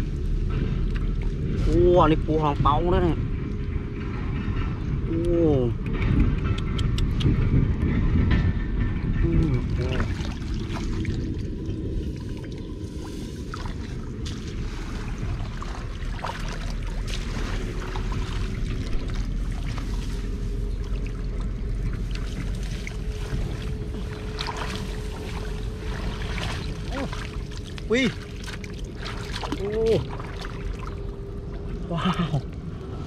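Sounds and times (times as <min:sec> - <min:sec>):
water sloshing and splashing: 0:00.0 - 0:05.1, 0:07.4 - 0:33.0
low rumble: 0:00.0 - 0:33.0.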